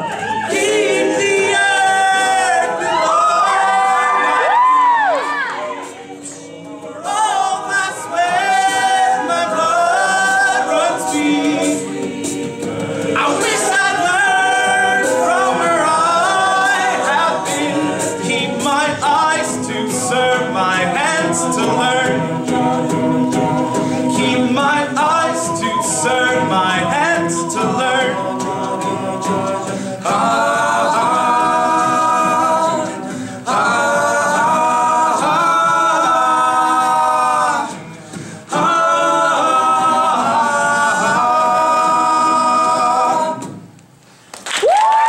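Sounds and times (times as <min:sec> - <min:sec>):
a cappella group singing chords: 0:00.0 - 0:44.0.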